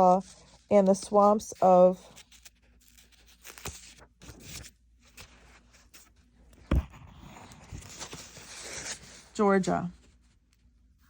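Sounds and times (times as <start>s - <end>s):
paper rustling: 0.0s - 10.7s.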